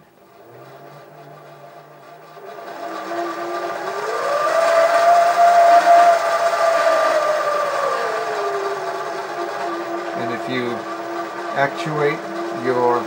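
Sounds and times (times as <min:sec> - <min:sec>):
lathe motor whine: 0:00.0 - 0:13.0.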